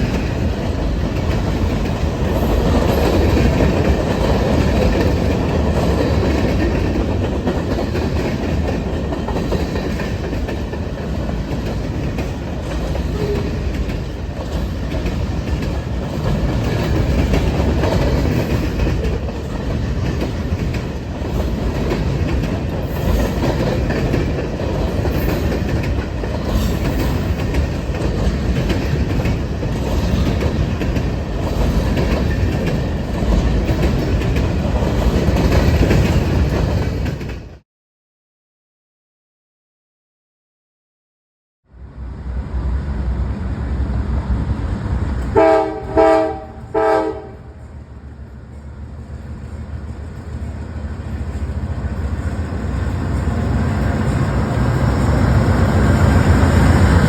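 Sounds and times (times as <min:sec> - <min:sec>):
train wheels on rails: 0:00.0 - 0:37.6, 0:41.9 - 0:57.0.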